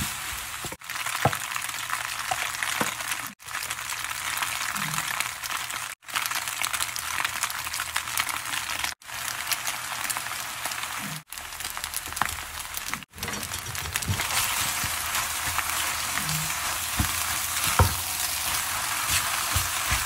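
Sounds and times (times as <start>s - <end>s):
food sizzling in a wok: 0.0s - 12.8s, 13.9s - 20.0s.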